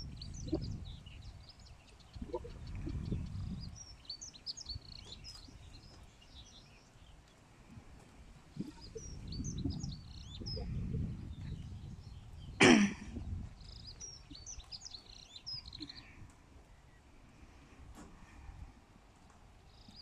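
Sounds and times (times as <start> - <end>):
horses thudding and shuffling: 0.0 - 12.4, 13.1 - 20.0
small birds chirping: 0.0 - 18.4, 19.2 - 20.0.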